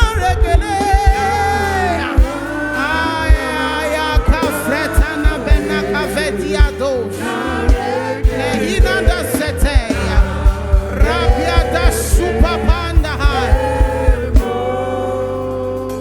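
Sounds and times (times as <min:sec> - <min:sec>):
heavy kick drum: 0:00.0 - 0:14.9
gospel singing over a band: 0:00.0 - 0:16.0.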